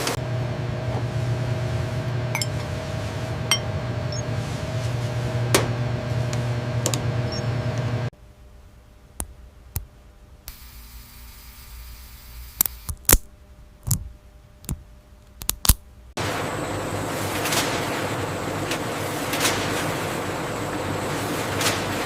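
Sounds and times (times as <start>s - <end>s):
machine hum: 0.0s - 15.3s, 16.0s - 22.0s.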